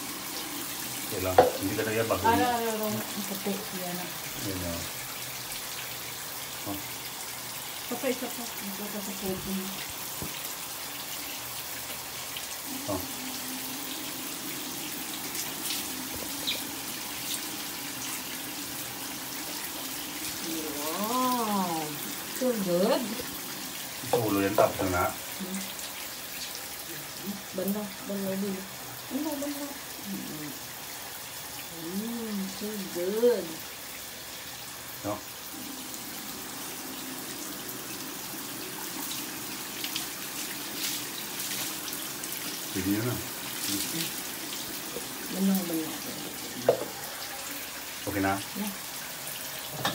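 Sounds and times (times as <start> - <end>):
shower water splattering: 0.0 - 49.9.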